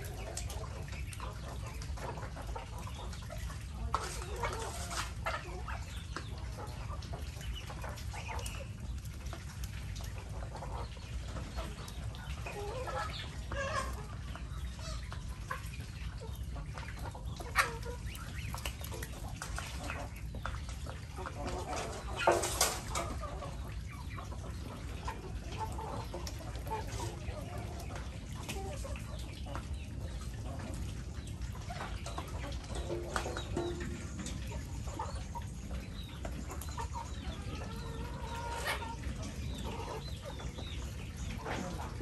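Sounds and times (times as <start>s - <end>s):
chickens and ducks clucking: 0.0s - 42.0s.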